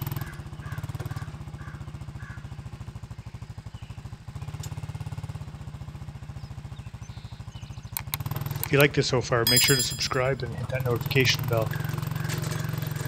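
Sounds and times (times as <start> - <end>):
atv engine running under load: 0.0 - 13.0.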